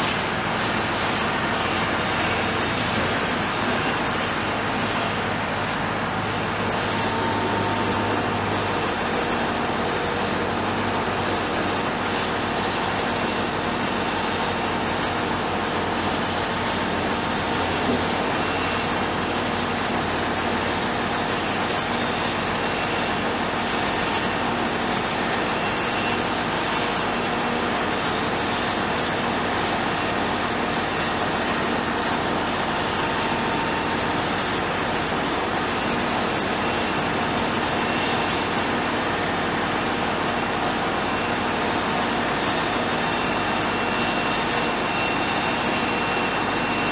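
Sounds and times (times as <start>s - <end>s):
diesel machinery engine drone: 0.0s - 46.9s.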